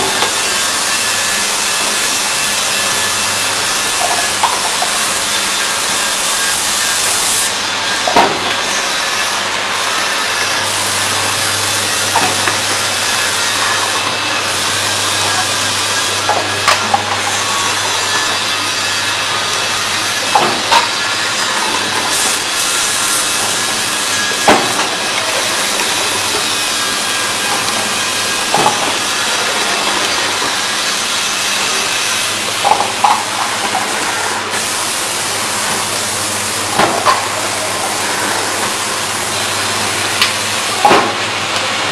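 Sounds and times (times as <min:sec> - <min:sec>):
low machine hum: 0:00.0 - 0:41.9.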